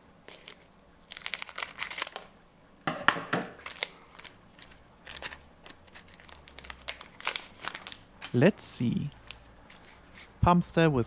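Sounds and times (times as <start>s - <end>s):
foil wrapper crinkling and tearing: 0.2s - 2.3s, 3.6s - 10.3s.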